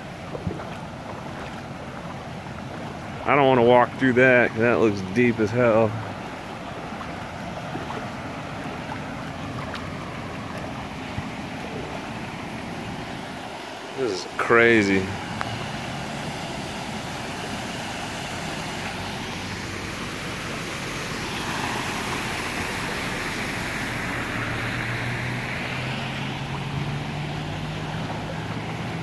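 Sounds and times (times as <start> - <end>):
floodwater rushing: 0.0 - 29.0
low engine hum: 0.0 - 29.0
tyres hissing through water: 0.0 - 29.0.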